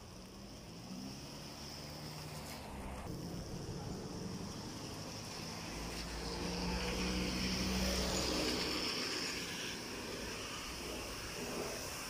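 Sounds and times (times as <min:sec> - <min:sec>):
tyre hiss on wet road: 0:00.0 - 0:12.0.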